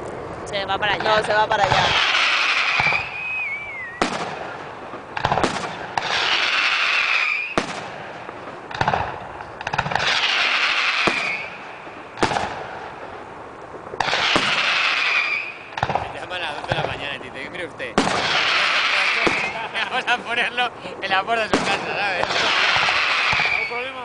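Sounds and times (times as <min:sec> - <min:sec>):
fireworks crackling hiss: 0:00.0 - 0:24.0
firework shells bursting: 0:00.9 - 0:24.0.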